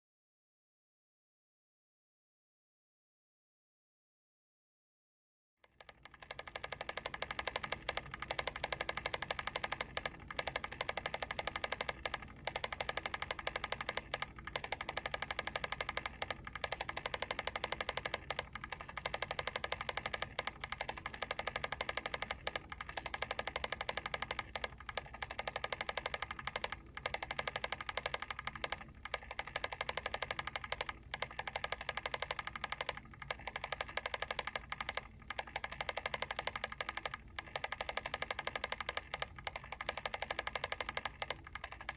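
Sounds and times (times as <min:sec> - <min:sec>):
clockwork timer ticking: 0:05.6 - 0:41.9.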